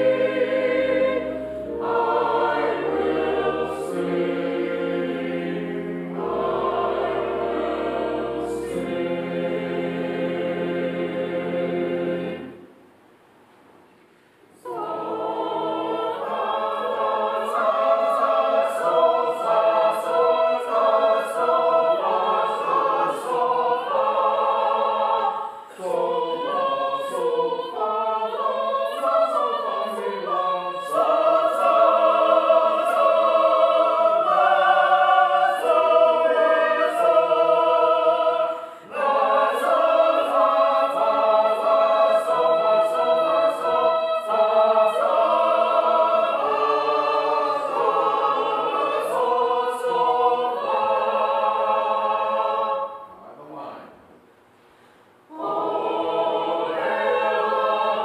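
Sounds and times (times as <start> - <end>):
choir singing hymn in harmony: 0.0 - 12.7, 14.6 - 53.7, 55.3 - 58.0.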